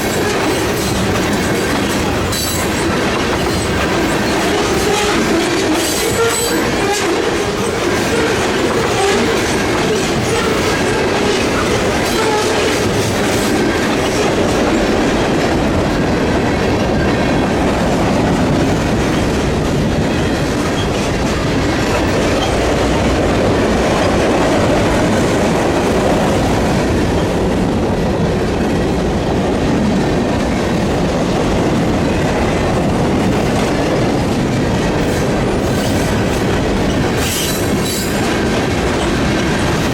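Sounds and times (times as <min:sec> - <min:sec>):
rumble of train wheels on rail: 0:00.0 - 0:39.9
train wheels clicking over rail joints: 0:00.0 - 0:39.9.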